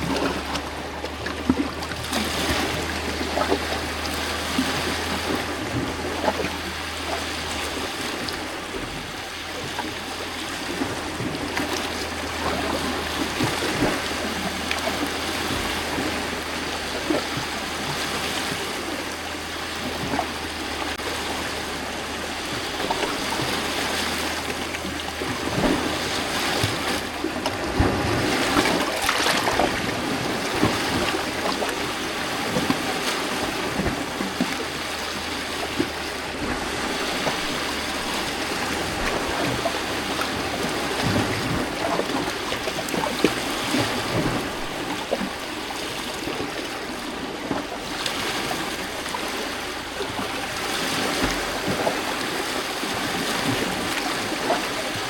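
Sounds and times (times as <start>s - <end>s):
waves lapping on rocky shore: 0.0s - 55.0s.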